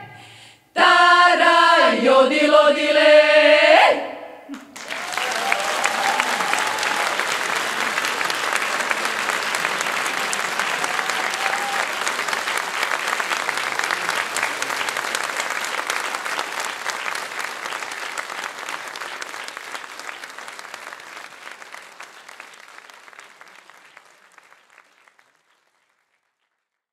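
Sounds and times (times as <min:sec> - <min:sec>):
audience applauding: 0:04.5 - 0:26.8.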